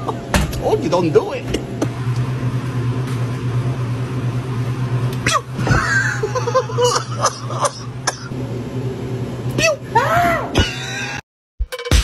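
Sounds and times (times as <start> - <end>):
cooler fans humming: 0.0 - 11.2.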